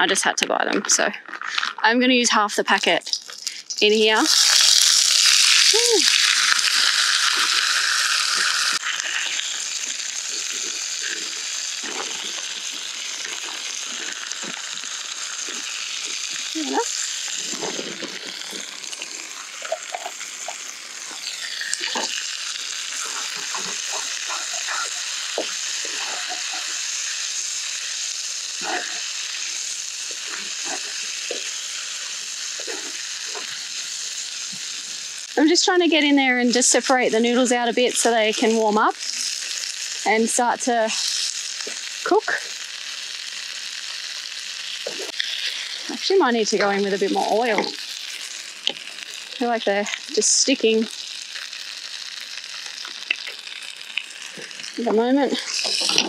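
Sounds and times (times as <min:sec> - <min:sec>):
oil sizzling in a pan: 0:00.0 - 0:56.0
noodles crinkling and crunching: 0:00.3 - 0:35.4, 0:38.0 - 0:56.0.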